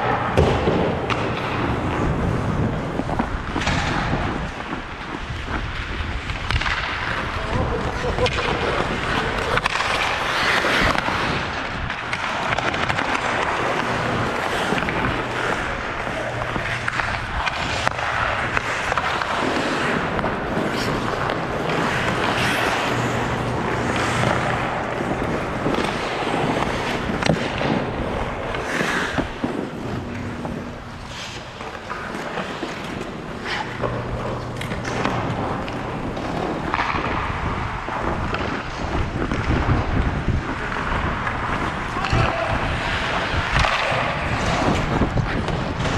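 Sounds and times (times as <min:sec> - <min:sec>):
hockey sticks and puck knocks: 0:00.0 - 0:45.9
skate blades scraping ice: 0:00.0 - 0:45.9.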